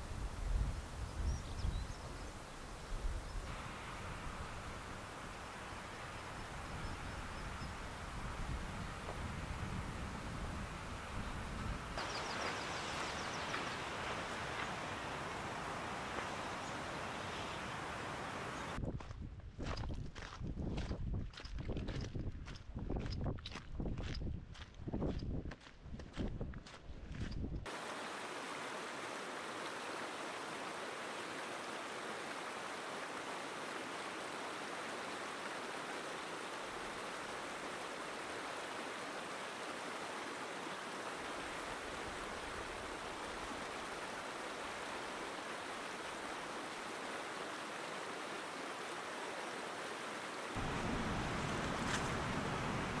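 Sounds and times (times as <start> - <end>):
rushing mountain water: 0.0 - 18.8, 27.6 - 53.0.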